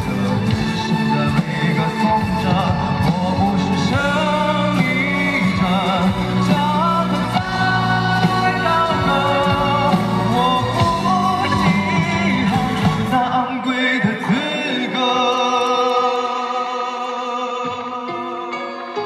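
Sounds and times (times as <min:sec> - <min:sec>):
full band playing: 0:00.0 - 0:19.0
man singing into a microphone: 0:00.0 - 0:19.0.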